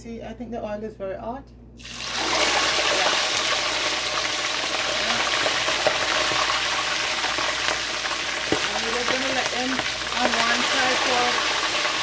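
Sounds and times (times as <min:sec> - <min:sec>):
chicken sizzling in hot oil: 0:01.8 - 0:12.0.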